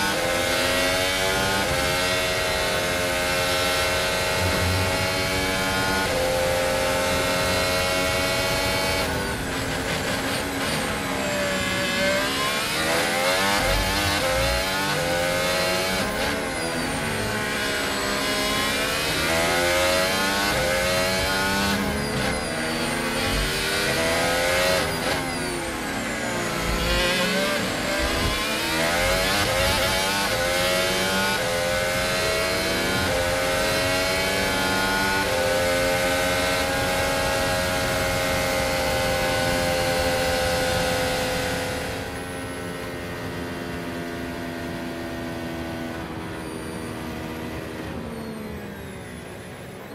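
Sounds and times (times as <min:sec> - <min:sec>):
racing car engines at full throttle: 0:00.0 - 0:49.9.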